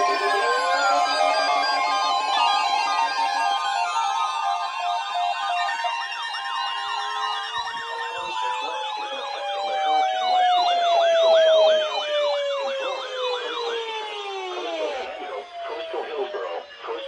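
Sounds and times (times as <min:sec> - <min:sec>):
siren long wailing tone: 0:00.0 - 0:17.0
siren yelp tones: 0:00.0 - 0:17.0.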